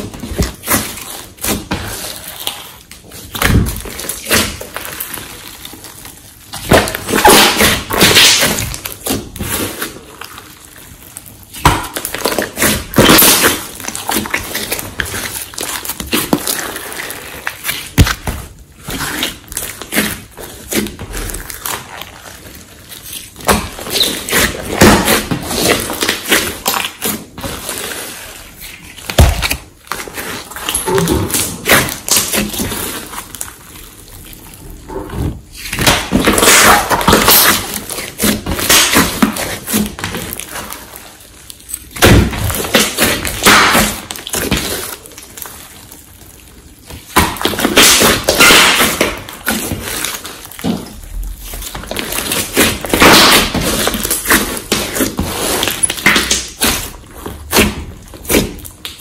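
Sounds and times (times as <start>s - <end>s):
slime squelching: 0.0s - 59.0s.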